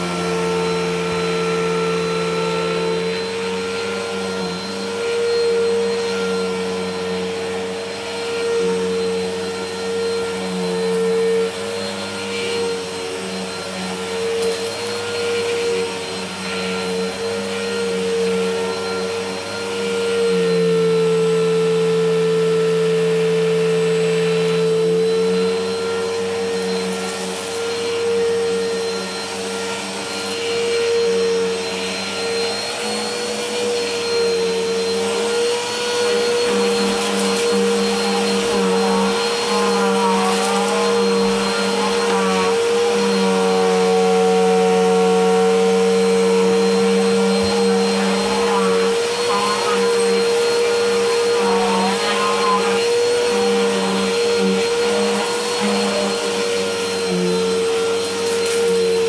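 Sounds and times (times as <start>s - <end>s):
vacuum cleaner running on carpet: 0.0s - 59.0s.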